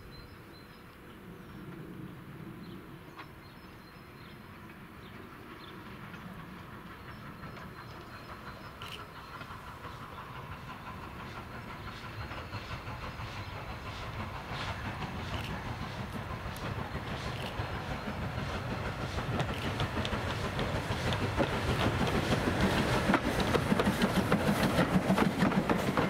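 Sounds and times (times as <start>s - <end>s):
steam train approaching: 0.0s - 26.0s.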